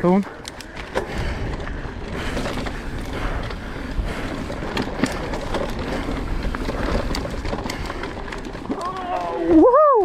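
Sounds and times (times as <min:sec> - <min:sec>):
bike tyres rumbling over rock: 0:00.0 - 0:10.0.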